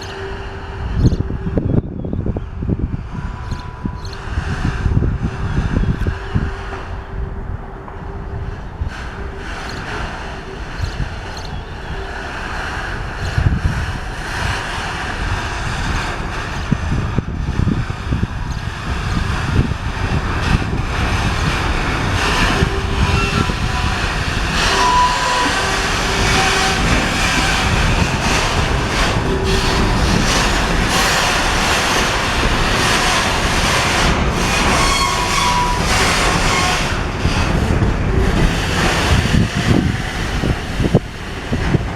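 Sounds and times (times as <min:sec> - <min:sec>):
high wheel squeals: 0:00.0 - 0:41.9
train wagons rolling and clattering: 0:00.0 - 0:41.9.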